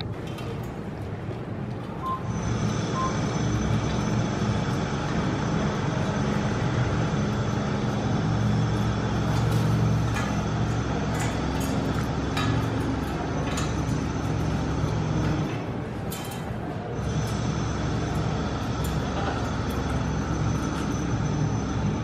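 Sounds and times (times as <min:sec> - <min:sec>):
vehicle engine droning: 0:00.0 - 0:16.0, 0:16.8 - 0:22.0.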